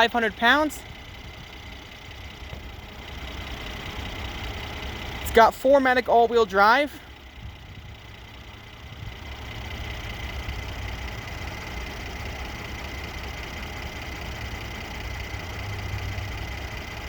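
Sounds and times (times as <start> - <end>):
car engine idling: 0.0 - 17.0
thin steady whine: 0.0 - 17.0.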